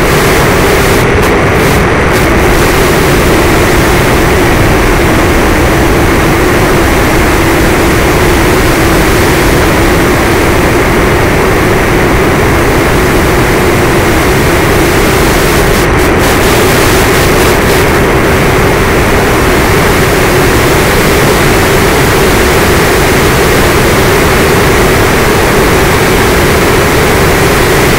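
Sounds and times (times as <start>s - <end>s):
rushing wind noise: 0.0s - 27.9s.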